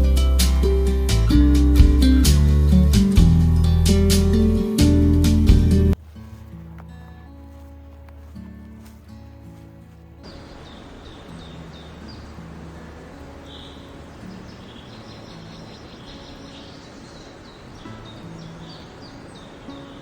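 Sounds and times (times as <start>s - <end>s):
outdoor background hiss: 0.0s - 20.0s
soft sustained music notes: 0.0s - 20.0s
songbirds chirping: 0.0s - 20.0s.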